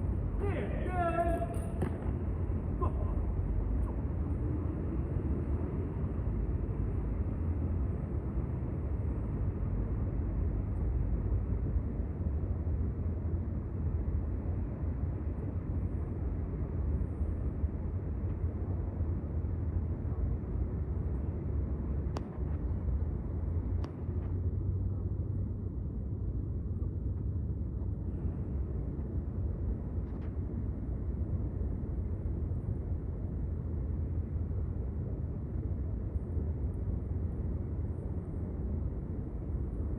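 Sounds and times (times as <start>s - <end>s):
low outdoor rumble: 0.0s - 39.9s.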